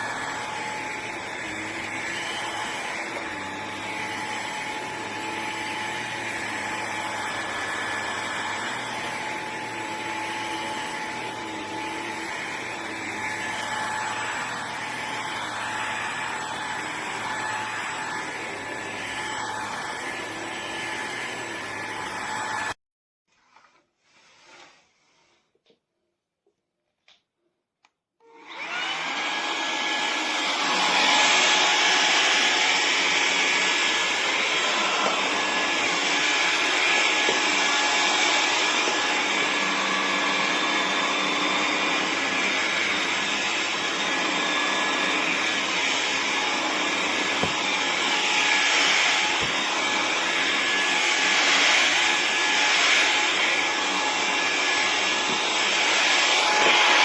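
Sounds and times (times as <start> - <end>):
stick vacuum running: 0.0 - 22.7, 28.3 - 57.0.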